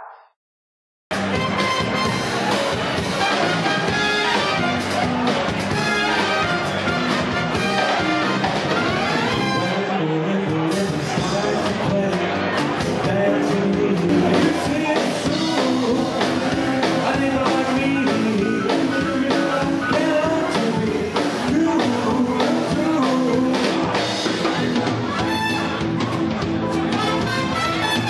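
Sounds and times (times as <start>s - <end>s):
drum kit beating time: 1.1s - 10.0s, 10.6s - 28.0s
swing band playing: 1.1s - 28.0s.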